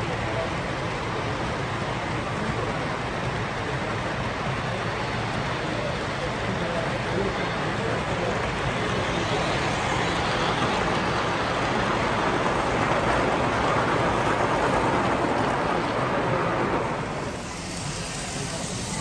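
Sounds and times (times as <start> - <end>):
model train rolling on track: 0.0 - 19.0.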